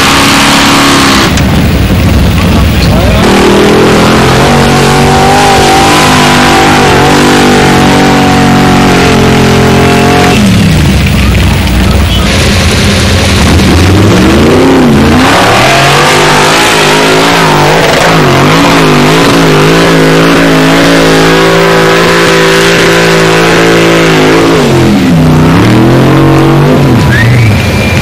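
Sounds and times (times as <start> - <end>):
car engine revving hard: 0.0 - 11.1, 12.3 - 27.1.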